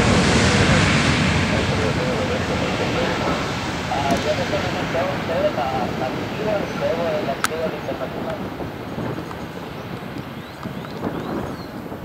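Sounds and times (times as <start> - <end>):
jet engines at takeoff: 0.0 - 12.0
wind buffeting microphone: 0.0 - 12.0.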